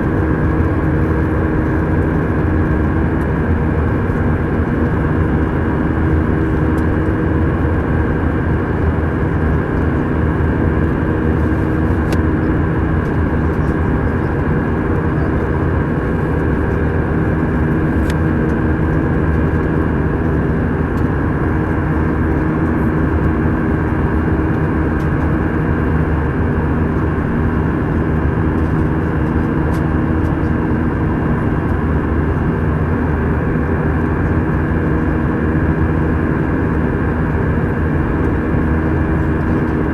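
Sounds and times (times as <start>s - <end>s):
jet engine drone: 0.0s - 39.9s
steady hum tones: 0.0s - 39.9s.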